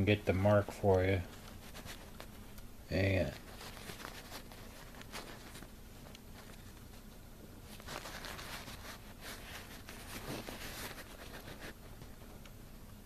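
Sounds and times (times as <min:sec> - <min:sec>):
low steady hum: 0:00.0 - 0:13.0
fingers rustling and rubbing: 0:00.8 - 0:12.2.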